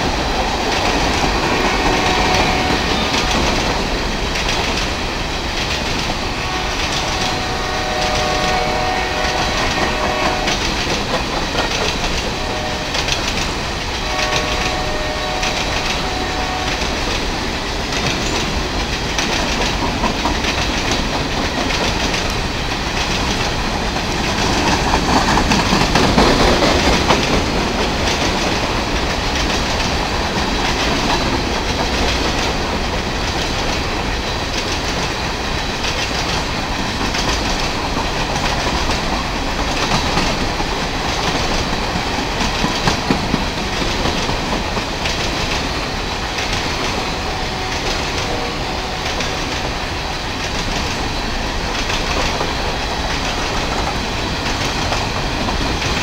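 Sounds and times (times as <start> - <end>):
clickety-clack over rail joints: 0.0 - 56.0
train wheels rumbling on rails: 0.0 - 56.0.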